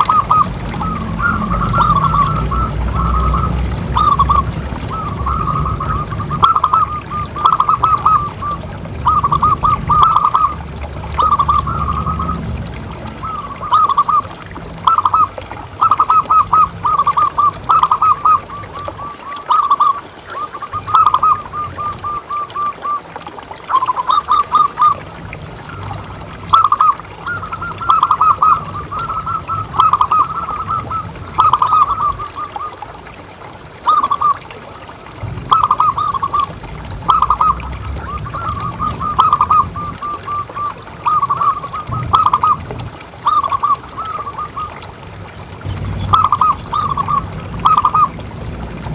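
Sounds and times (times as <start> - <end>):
doves cooing: 0.0 - 48.4.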